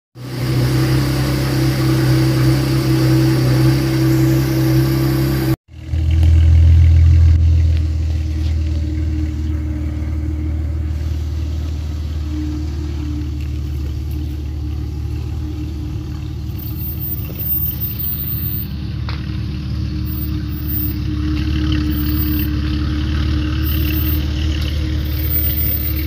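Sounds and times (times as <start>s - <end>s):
car exhaust idling: 0.2s - 26.0s.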